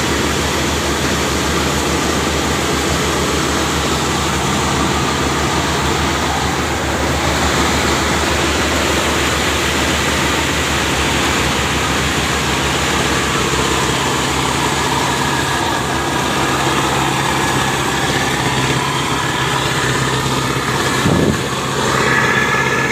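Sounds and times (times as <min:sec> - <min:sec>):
harvesting machine engine running: 0:00.0 - 0:22.9.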